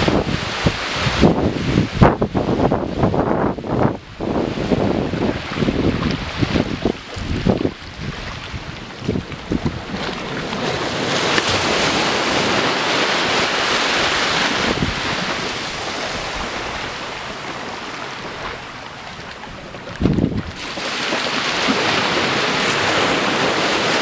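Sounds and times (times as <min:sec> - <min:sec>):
small waves breaking on beach: 0:00.0 - 0:24.0.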